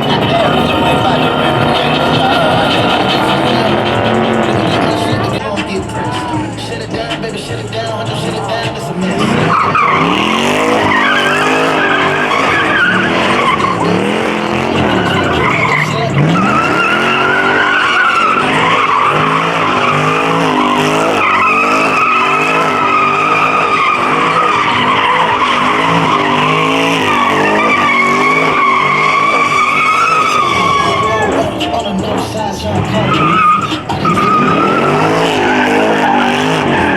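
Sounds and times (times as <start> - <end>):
car engine revving: 0.0 - 36.9
tyres squealing: 0.0 - 36.9.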